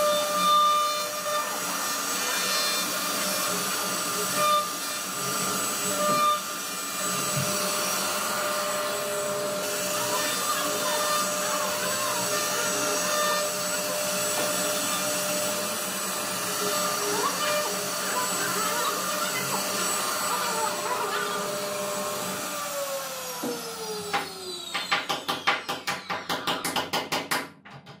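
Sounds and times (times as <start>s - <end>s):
hiss of bit cutting wood: 0.0s - 25.5s
router spindle whining: 0.0s - 26.4s.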